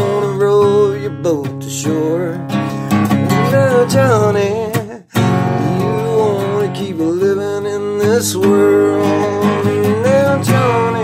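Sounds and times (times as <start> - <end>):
strummed acoustic guitar: 0.0 - 11.0
wordless vocal melody: 0.0 - 11.0.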